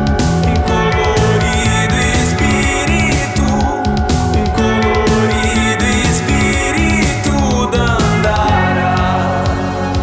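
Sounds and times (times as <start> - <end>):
electric guitar: 0.0 - 10.0
rock band music: 0.0 - 10.0
steady drum beat: 0.0 - 10.0.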